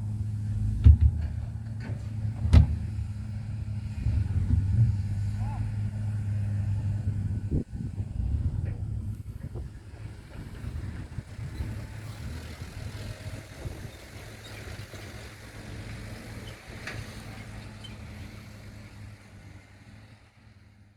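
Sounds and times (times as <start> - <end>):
engine running at low speed: 0.0 - 20.9.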